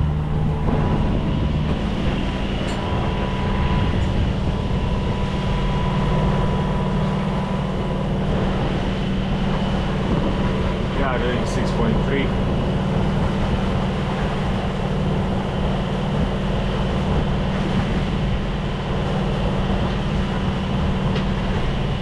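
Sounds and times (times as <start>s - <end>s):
marine diesel engine drone: 0.0s - 22.0s.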